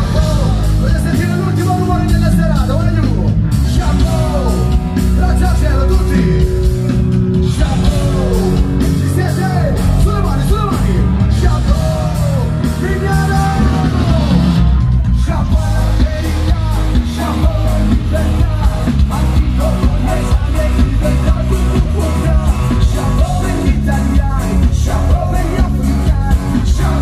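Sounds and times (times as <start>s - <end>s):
drums: 0.0s - 27.0s
electric bass: 0.0s - 27.0s.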